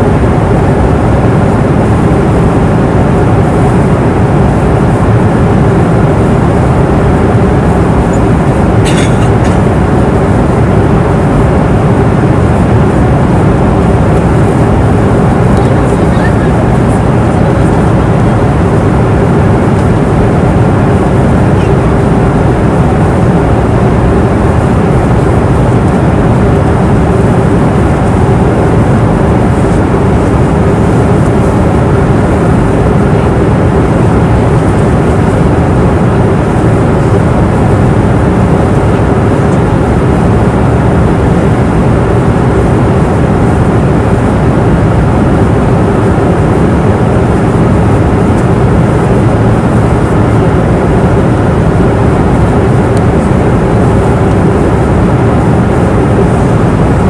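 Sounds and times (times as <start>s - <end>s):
airplane cabin engine roar: 0.0s - 57.0s
faint steady hum: 0.0s - 57.0s.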